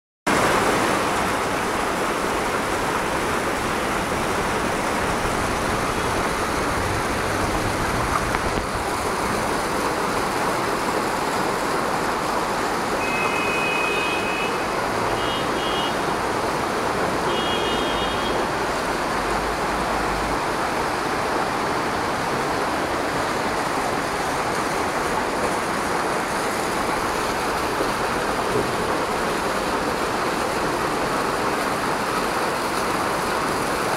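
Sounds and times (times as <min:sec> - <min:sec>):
floodwater rushing: 0:00.3 - 0:33.9.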